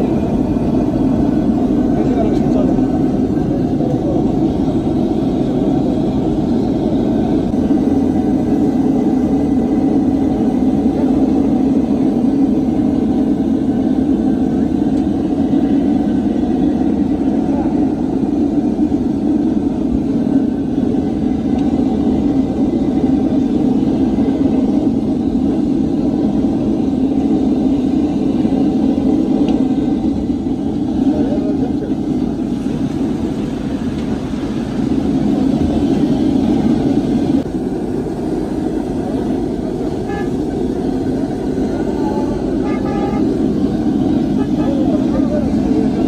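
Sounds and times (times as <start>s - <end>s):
low rumble of motor traffic: 0.0s - 46.0s.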